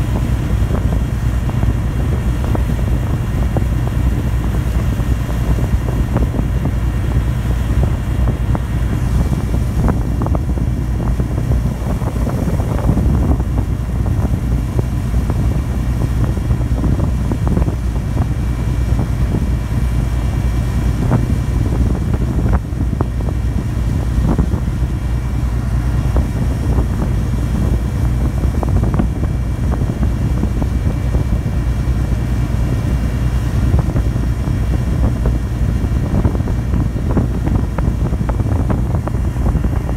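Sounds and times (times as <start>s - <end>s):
ferry diesel engines droning: 0.0s - 39.9s
wind noise: 0.0s - 39.9s.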